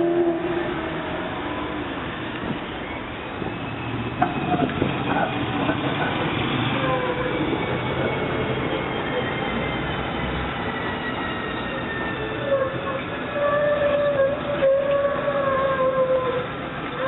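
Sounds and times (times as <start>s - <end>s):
high wheel squeal: 0.0s - 17.0s
tram wheels rolling over rails: 0.0s - 17.0s.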